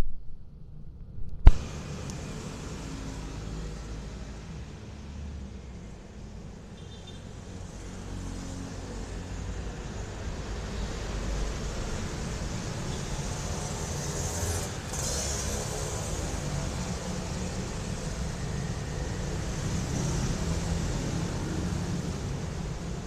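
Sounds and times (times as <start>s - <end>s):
road noise: 0.4s - 23.0s.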